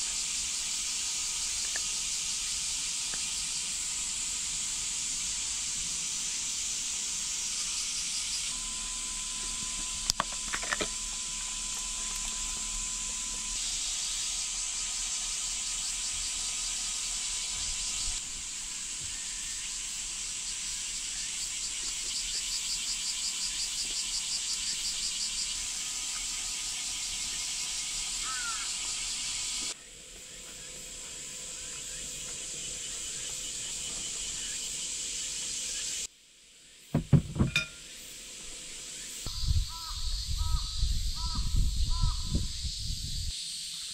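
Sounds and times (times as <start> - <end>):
high-pitched insect chorus: 0.0 - 36.1, 37.0 - 43.9
pulsing insect call: 0.0 - 36.1, 36.7 - 43.9.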